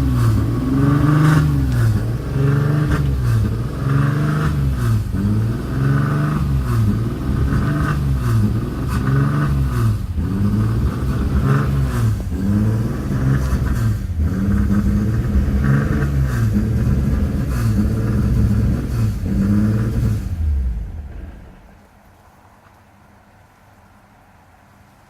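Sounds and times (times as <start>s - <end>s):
car engine revving: 0.0s - 21.8s.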